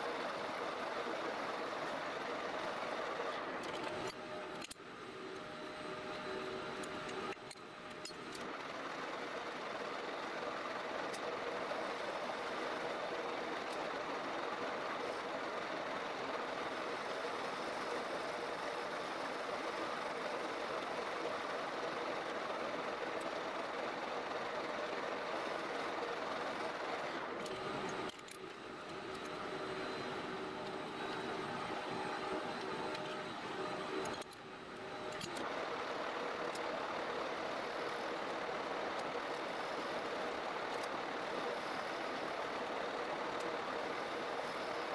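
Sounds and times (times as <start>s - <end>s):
machine running hum: 0.0s - 9.0s, 11.1s - 44.9s.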